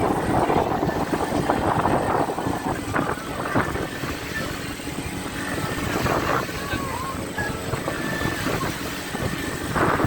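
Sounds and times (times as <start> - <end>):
boat running through choppy sea: 0.0 - 10.0
wind buffeting microphone: 0.0 - 10.0.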